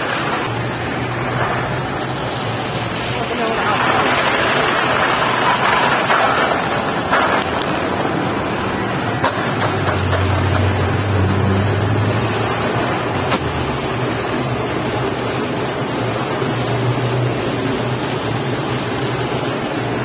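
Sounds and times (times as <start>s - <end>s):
machinery and water rushing: 0.0s - 20.0s.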